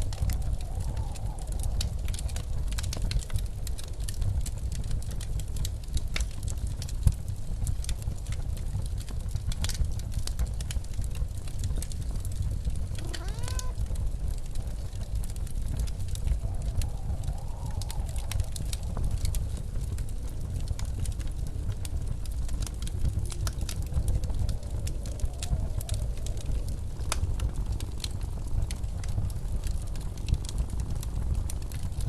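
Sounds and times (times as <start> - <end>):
fireplace crackling and popping: 0.0 - 32.0
low rumble of blizzard wind: 0.0 - 32.0.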